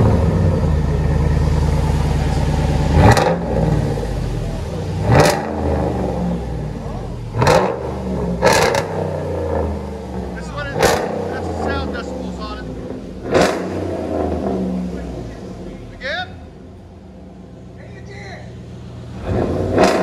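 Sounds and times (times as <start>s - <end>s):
truck engine idling: 0.0s - 19.6s
engine throttle blips: 0.0s - 20.0s.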